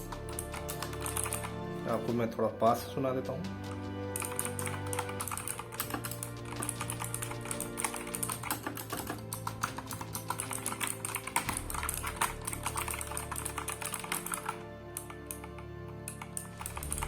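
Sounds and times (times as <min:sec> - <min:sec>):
mechanical keyboard typing: 0:00.0 - 0:01.7, 0:03.6 - 0:17.0
background music: 0:00.0 - 0:17.0.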